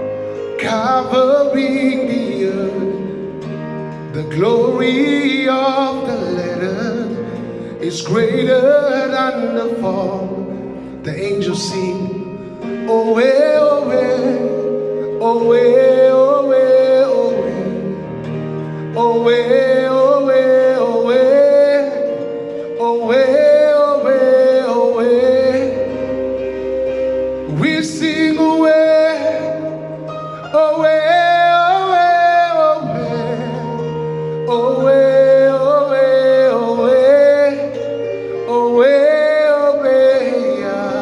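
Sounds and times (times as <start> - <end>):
gospel singing: 0.0 - 41.0
sustained instrumental backing: 0.0 - 41.0.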